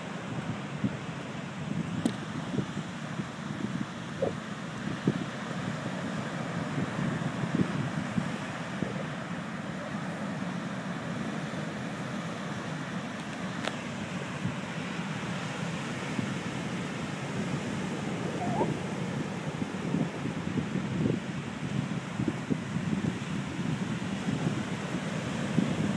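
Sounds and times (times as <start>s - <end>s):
wind buffeting microphone: 0.3s - 14.7s, 15.6s - 25.9s.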